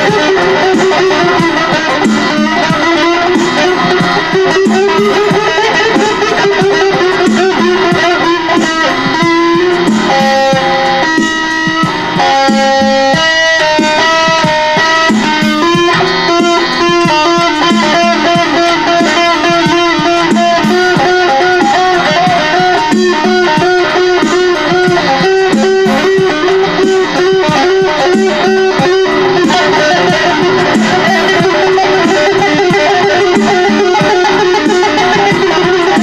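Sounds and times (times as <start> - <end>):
electric guitar tapping: 0.0 - 36.0.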